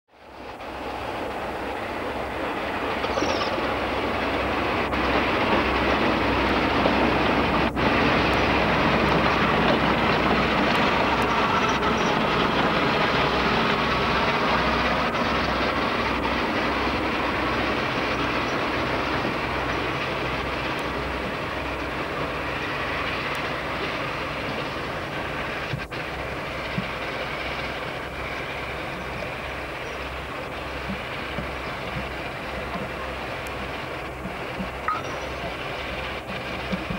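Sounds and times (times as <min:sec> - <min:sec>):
diesel locomotive engines: 0:00.1 - 0:36.9.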